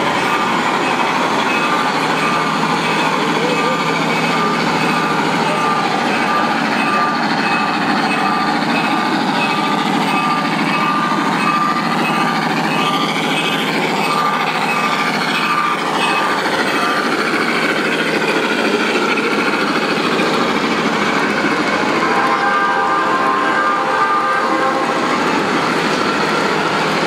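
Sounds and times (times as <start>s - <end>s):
hall background noise: 0.0s - 23.8s
model train rolling: 0.0s - 27.0s.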